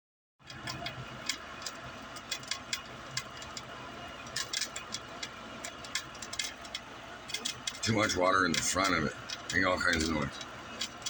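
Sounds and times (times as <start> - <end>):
air conditioner motor hum: 0.4 - 11.0
fan striking water rattle: 0.4 - 11.0.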